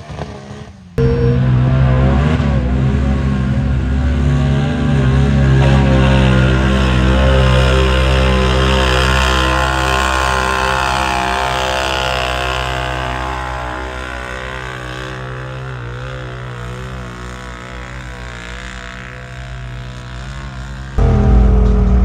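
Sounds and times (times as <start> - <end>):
truck engine running hard: 0.8 - 22.0.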